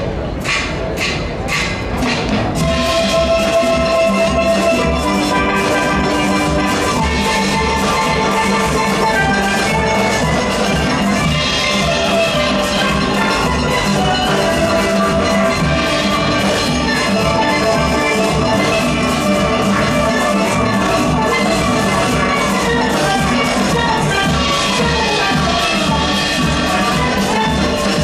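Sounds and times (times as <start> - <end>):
drum and percussion beat: 0.0 - 28.0
steel pans playing: 0.0 - 28.0.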